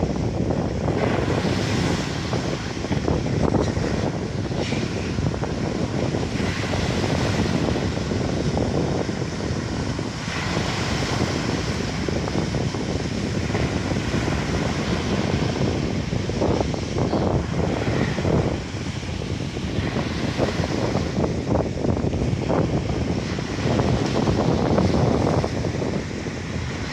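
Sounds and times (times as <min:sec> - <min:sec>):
sea waves washing ashore: 0:00.0 - 0:26.9
wind buffeting microphone: 0:00.0 - 0:26.9.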